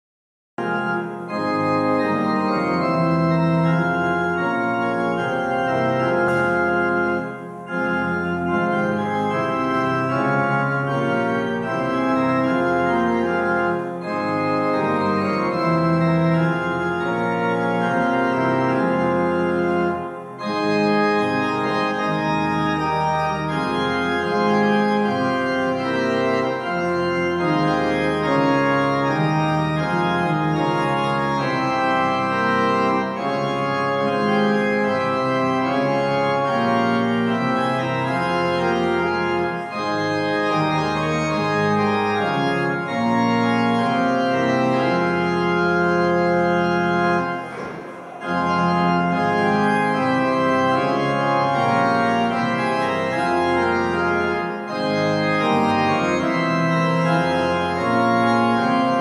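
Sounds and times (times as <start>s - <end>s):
organ playing slow chords: 0.6s - 59.0s.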